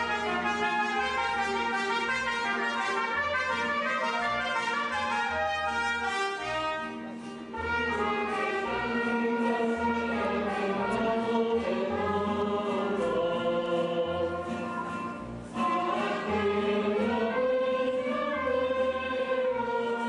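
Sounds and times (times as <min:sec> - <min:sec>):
brass band playing: 0:00.0 - 0:12.0, 0:14.2 - 0:20.0.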